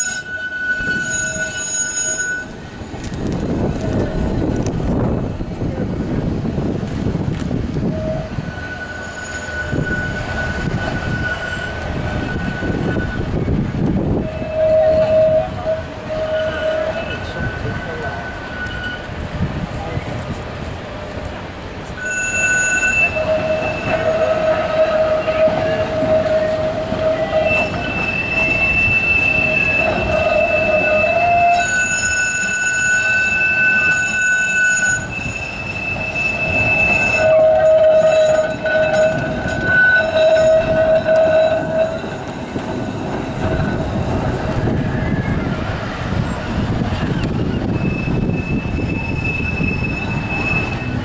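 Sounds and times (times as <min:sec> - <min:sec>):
tram wheels squealing: 0:00.0 - 0:51.0
wheels rumbling on rails: 0:00.0 - 0:51.0.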